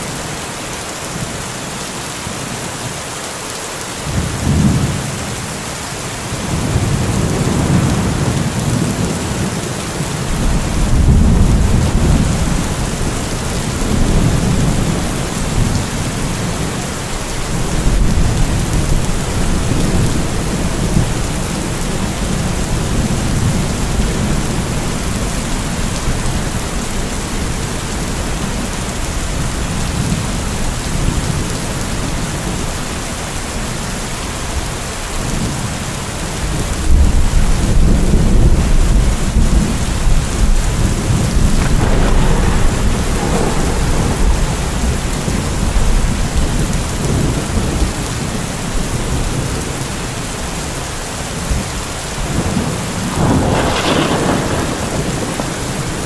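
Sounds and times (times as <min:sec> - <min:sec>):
heavy rain hissing: 0:00.0 - 0:56.0
thunder rumbling: 0:06.3 - 0:32.7, 0:36.5 - 0:50.6, 0:51.3 - 0:56.0.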